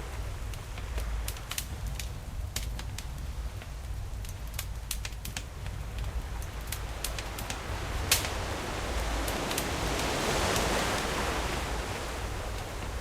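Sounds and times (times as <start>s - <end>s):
campfire crackling: 0.0s - 13.0s
low rumble of surf: 0.0s - 13.0s.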